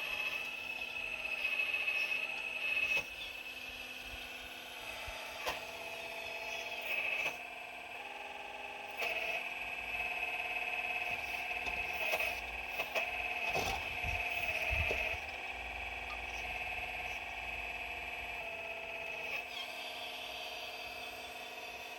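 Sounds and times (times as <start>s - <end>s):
excavator motors whining: 0.0s - 21.9s.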